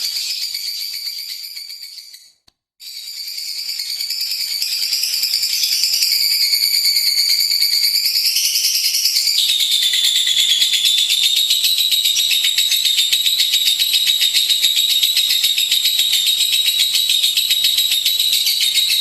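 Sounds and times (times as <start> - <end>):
lovebird chattering trill: 3.7 - 19.0.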